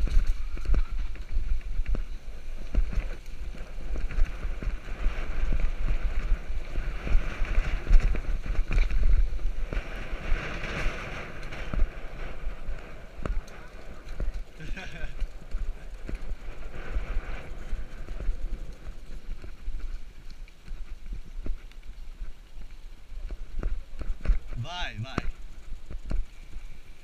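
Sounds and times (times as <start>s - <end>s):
bike rattling and knocking: 0.0s - 26.6s
tyres crunching on dirt: 0.0s - 26.8s
wind buffeting microphone: 0.0s - 27.0s.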